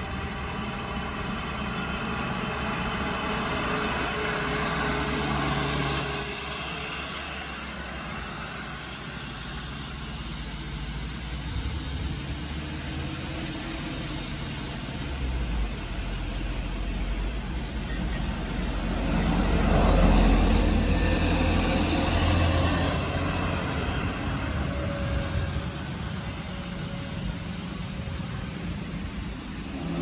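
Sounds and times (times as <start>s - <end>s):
steady high whine: 0.0s - 30.0s.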